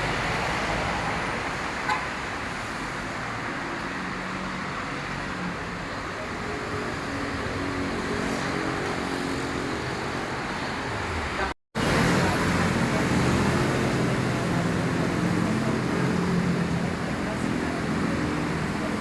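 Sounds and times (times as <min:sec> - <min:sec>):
passing cars: 0:00.0 - 0:19.0.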